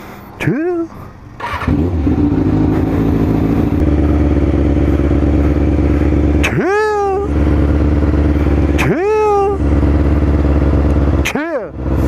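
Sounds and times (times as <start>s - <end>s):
motorcycle engine idling: 1.2s - 12.0s.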